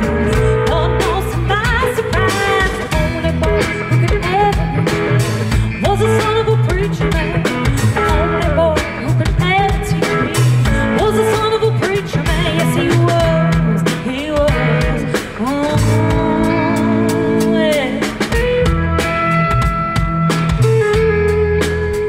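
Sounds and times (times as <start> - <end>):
woman singing: 0.0 - 18.4
bass line: 0.0 - 22.0
drums: 0.0 - 22.0
electric and acoustic guitars: 0.0 - 22.0.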